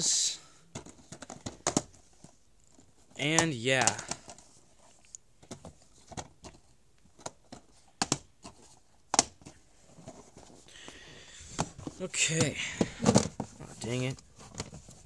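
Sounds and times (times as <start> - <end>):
plastic cases clicking together: 0.7 - 4.5, 5.4 - 10.6, 11.5 - 15.0
soft rustle of handling: 0.8 - 11.0, 11.6 - 15.0.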